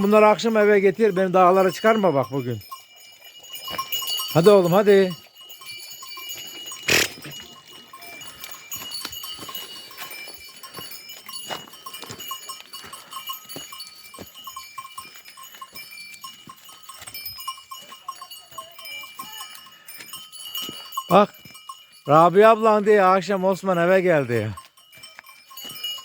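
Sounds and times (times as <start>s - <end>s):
livestock neck bells clinking: 0.0s - 26.0s.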